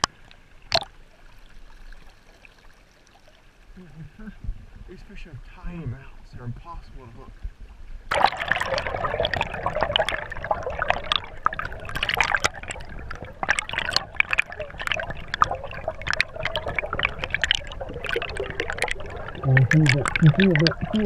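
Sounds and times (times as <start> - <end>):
underwater gurgling of moving water: 0.0 - 21.0.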